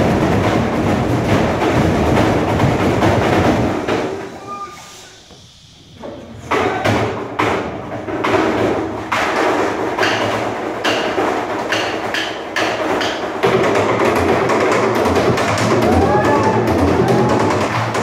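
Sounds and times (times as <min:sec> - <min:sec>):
sticks drumming on plastic barrels: 0:00.0 - 0:04.5, 0:06.0 - 0:18.0.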